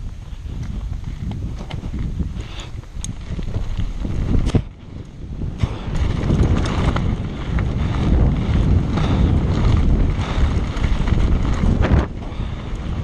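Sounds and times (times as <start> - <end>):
bike rattling clicks: 0.0 - 13.0
wind buffeting microphone: 0.0 - 13.0
tyres crunching on gravel: 0.6 - 13.0.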